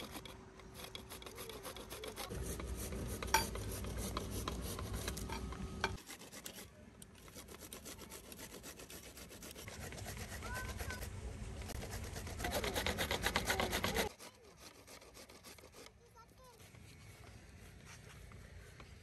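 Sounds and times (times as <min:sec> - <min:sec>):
radish grated on metal grater: 0:00.0 - 0:16.1.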